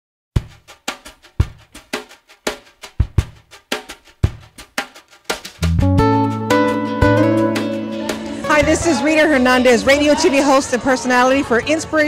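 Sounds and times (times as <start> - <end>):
drum-kit beat: 0.4 - 10.6.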